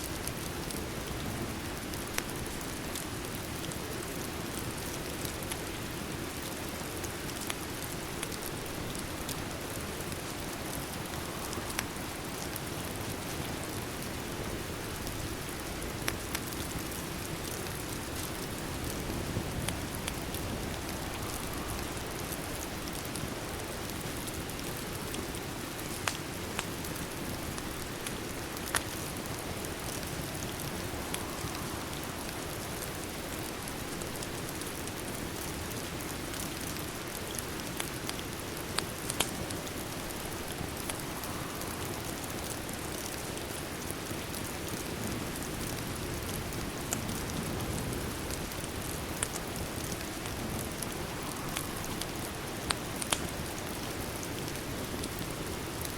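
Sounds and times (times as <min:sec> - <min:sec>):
steady rain hissing: 0:00.0 - 0:55.9
wood fire crackling: 0:00.0 - 0:55.9.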